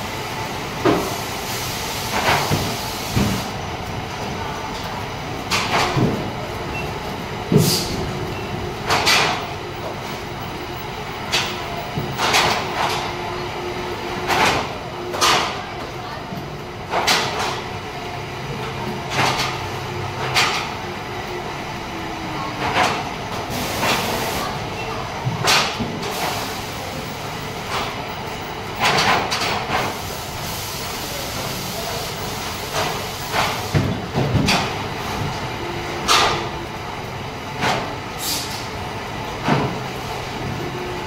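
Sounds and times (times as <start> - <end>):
factory hum: 0.0 - 41.0.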